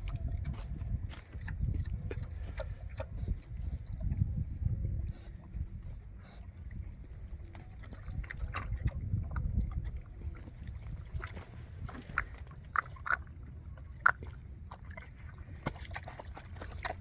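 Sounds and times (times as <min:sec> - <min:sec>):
animals slurping milk: 0:00.0 - 0:17.0.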